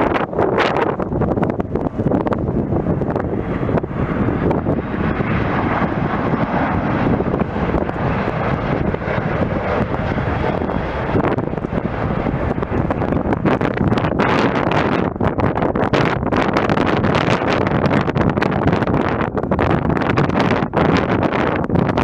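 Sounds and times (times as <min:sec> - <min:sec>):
jet airliner passing overhead: 0:00.0 - 0:22.0
wind buffeting microphone: 0:00.0 - 0:22.0.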